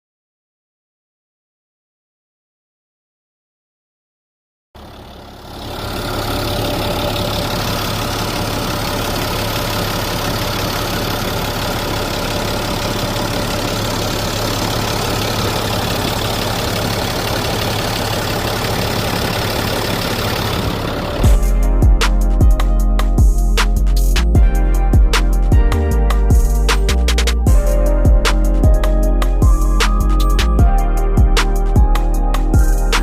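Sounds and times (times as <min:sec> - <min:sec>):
vehicle engine idling: 0:04.8 - 0:33.0.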